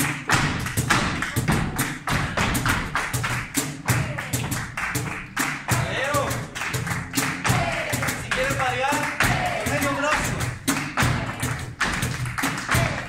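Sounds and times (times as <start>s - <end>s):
flamenco music: 0.0s - 13.0s
rhythmic hand clapping: 0.0s - 13.0s.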